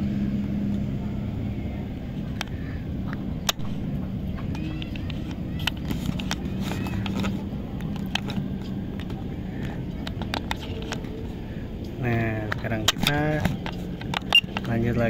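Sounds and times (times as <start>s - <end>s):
low motor hum: 0.0s - 15.0s
sharp clicks: 2.4s - 15.0s.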